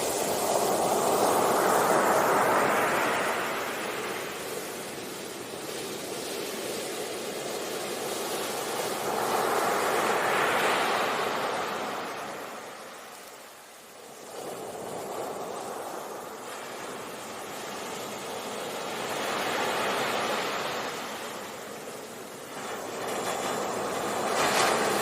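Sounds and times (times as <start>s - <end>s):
sea waves washing onto beach: 0.0s - 25.0s.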